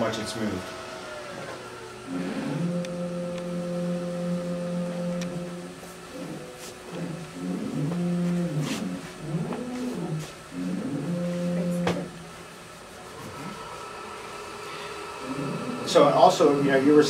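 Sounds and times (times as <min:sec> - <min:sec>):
printer motors humming: 0:00.0 - 0:17.0.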